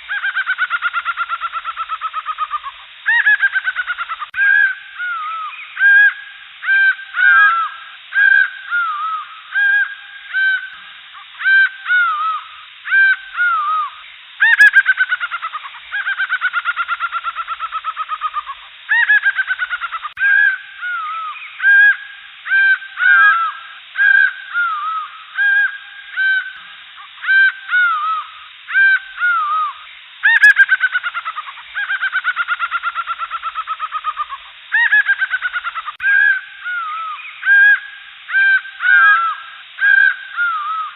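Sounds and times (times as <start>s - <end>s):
jungle birds calling: 0.0s - 40.9s.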